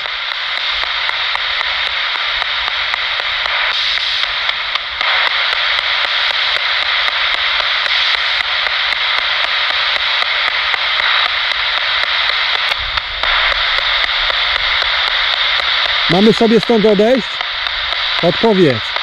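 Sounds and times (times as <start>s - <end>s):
radio static hiss: 0.0s - 19.0s
rapid radio clicks: 0.0s - 19.0s.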